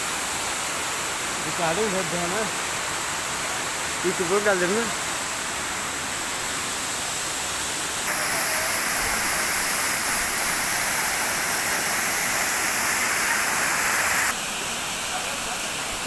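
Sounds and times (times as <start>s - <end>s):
waterfall rushing: 0.6s - 16.0s.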